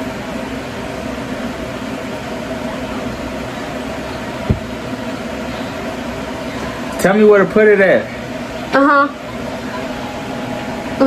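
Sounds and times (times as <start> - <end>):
fan humming and whirring: 0.0 - 11.0.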